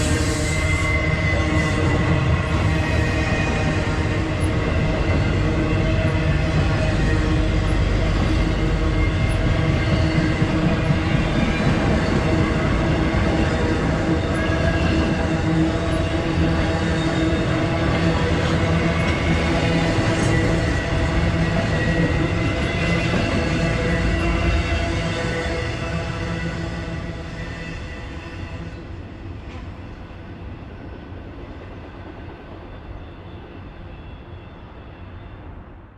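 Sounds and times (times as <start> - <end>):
freight train rumbling past: 0.0 - 35.9.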